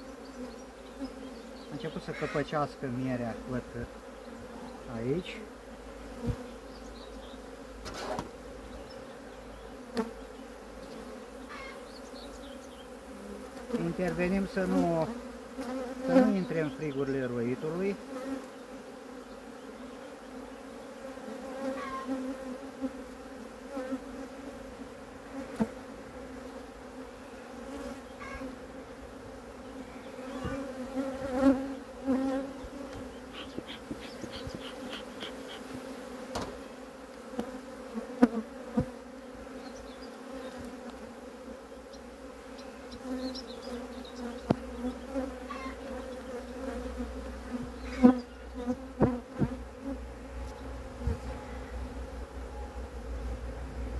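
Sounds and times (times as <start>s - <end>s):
bees buzzing: 0.0s - 53.9s.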